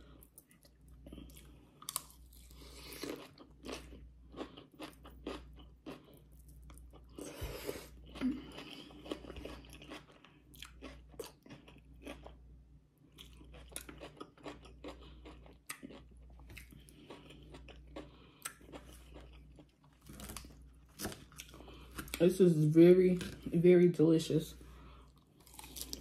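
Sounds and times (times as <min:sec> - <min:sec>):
person chewing crunchy salad: 0:00.0 - 0:22.2, 0:24.7 - 0:26.0.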